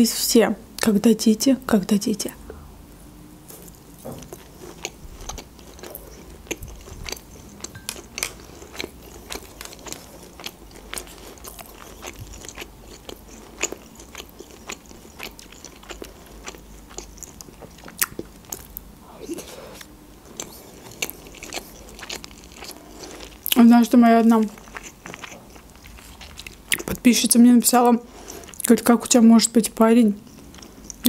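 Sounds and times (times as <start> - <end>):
person chewing meat: 3.5 - 27.0, 28.1 - 28.7, 30.2 - 31.0.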